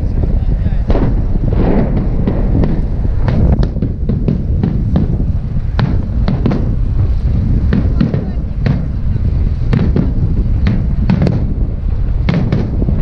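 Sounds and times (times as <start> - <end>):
fireworks cracking and popping: 0.0 - 13.0
low rumble: 0.0 - 13.0.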